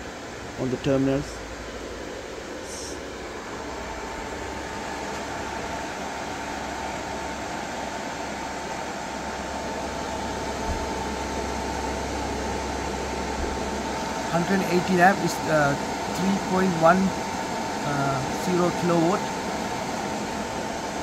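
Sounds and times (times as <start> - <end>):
high whine: 0.0 - 21.0
low hum: 0.0 - 21.0
whirring hiss: 0.0 - 21.0.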